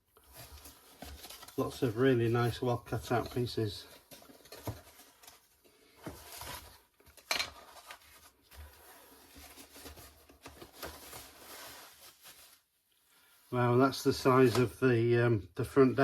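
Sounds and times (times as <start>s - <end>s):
rustling: 0.1s - 13.4s.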